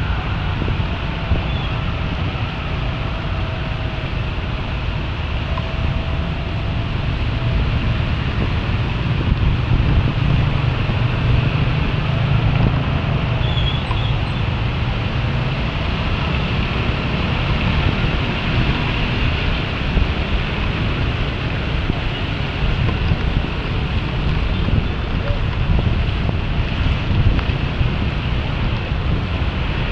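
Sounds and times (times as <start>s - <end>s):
heavy rain: 0.0s - 29.9s
road noise: 0.0s - 29.9s
wind noise on microphone: 0.0s - 29.9s.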